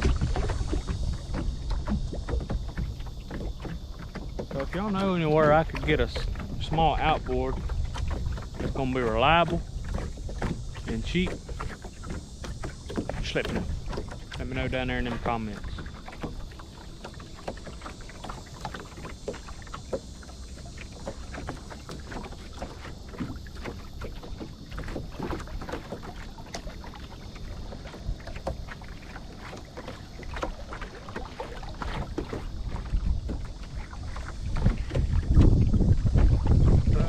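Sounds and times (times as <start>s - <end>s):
wind rumbling on microphone: 0.0s - 19.8s, 20.9s - 37.0s
waves lapping against boat hull: 0.0s - 37.0s.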